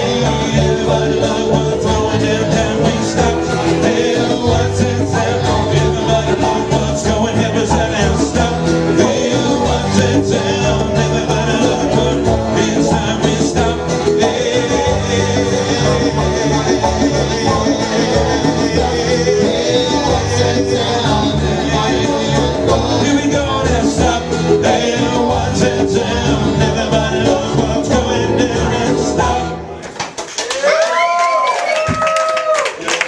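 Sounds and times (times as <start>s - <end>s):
steady bass line: 0.0s - 29.7s
plucked strings: 0.0s - 29.8s.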